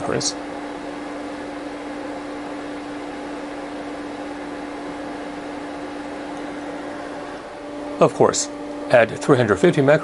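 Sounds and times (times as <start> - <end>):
cooling fan humming: 0.0 - 10.0.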